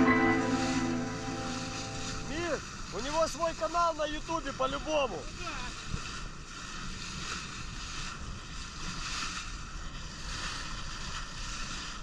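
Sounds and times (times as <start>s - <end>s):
sea water rushing along boat: 0.0s - 12.0s.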